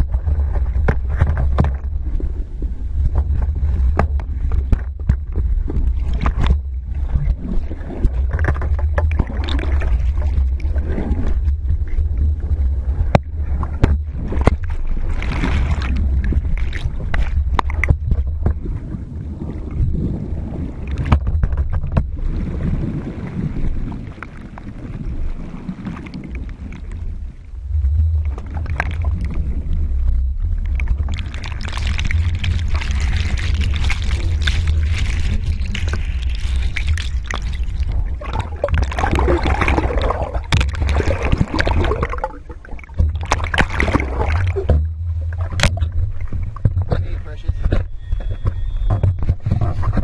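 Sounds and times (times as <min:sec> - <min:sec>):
water churning underwater: 0:00.0 - 0:50.0.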